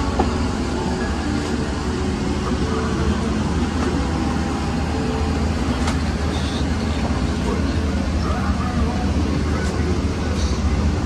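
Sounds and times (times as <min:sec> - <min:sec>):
airplane cabin noise: 0:00.0 - 0:11.0.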